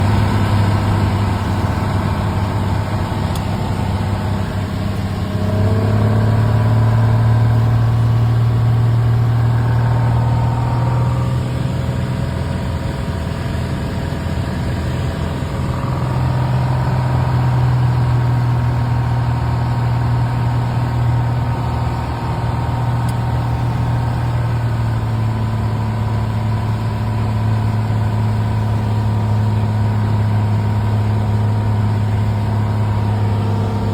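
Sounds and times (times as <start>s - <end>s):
small plane engine droning: 0.0s - 33.9s.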